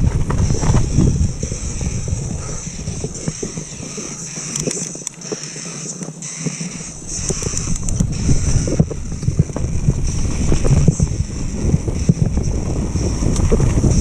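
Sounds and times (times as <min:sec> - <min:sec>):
bike knocking and rattling: 0:00.0 - 0:14.0
bike tyres on dirt: 0:00.0 - 0:14.0
wind rumble on microphone: 0:00.0 - 0:14.0.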